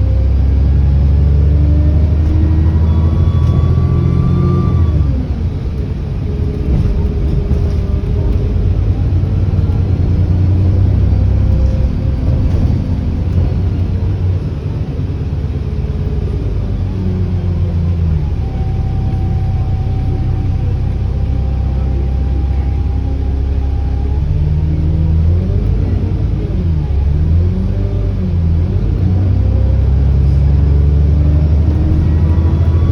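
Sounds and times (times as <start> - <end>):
bus diesel engine rumble: 0.0 - 32.9
turbo whine: 1.8 - 28.3, 29.3 - 32.9.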